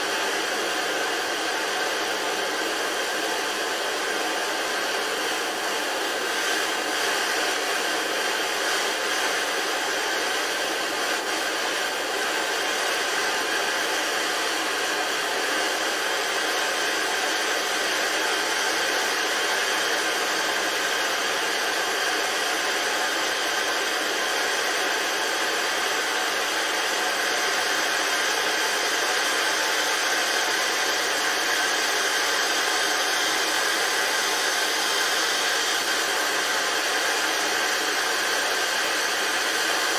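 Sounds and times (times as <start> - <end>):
gas torches hissing: 0.0 - 39.9.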